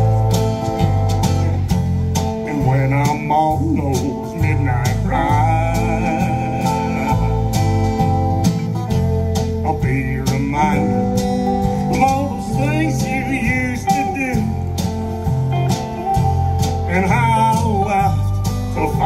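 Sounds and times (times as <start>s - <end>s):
country band playing live: 0.0s - 19.0s
steel guitar: 0.0s - 19.0s.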